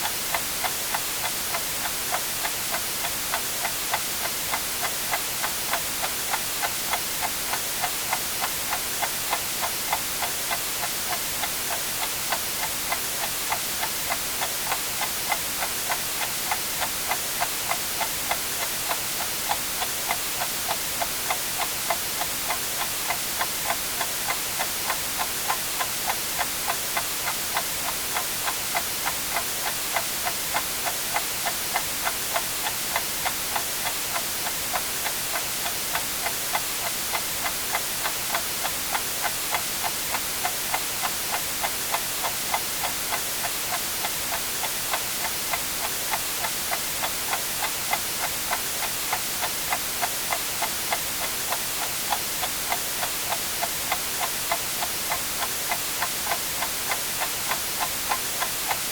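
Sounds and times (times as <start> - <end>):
white noise hiss: 0.0 - 58.9
clock ticking: 0.3 - 58.9.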